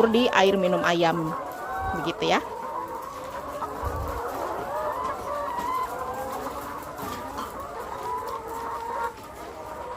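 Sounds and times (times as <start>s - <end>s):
hens clucking: 0.0s - 9.9s.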